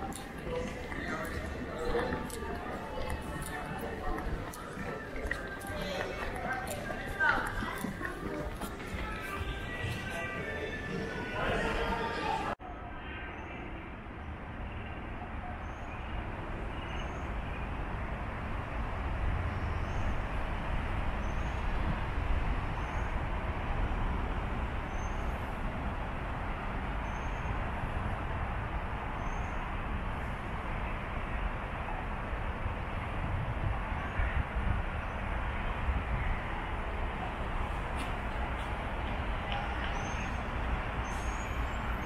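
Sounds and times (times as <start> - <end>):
road traffic rumble: 0.0 - 12.7, 13.6 - 42.0.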